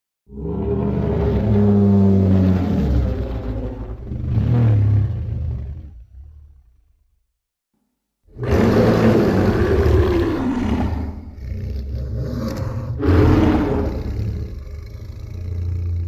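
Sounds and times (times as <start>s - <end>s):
monster roar: 0.3s - 5.8s, 8.3s - 16.0s.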